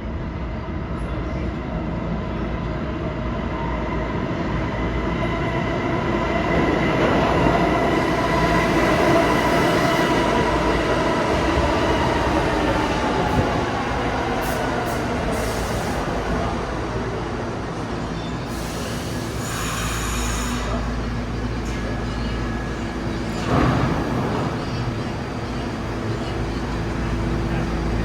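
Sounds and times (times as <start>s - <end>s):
subway train rumbling: 0.0s - 28.0s.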